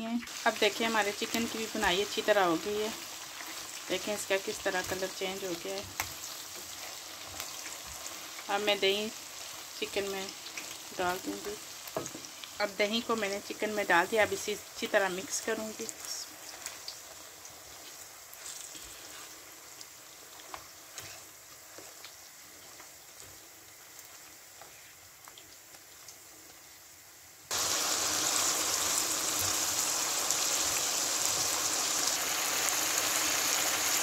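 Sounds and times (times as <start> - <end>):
faint sizzling in a pan: 0.0 - 34.0
loud sizzling in hot oil: 0.1 - 34.0.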